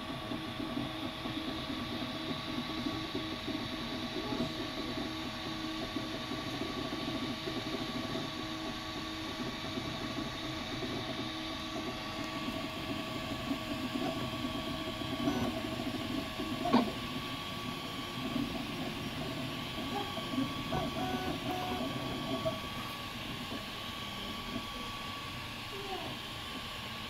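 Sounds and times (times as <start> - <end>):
printer stepper motors whirring: 0.0 - 27.0.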